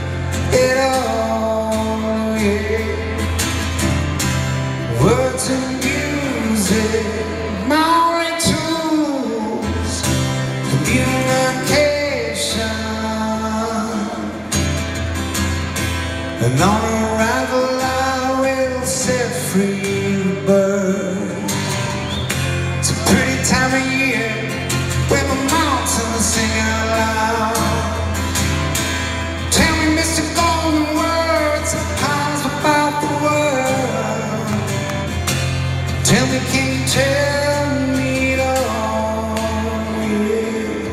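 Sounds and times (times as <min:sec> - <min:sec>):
acoustic guitar: 0:00.0 - 0:40.9.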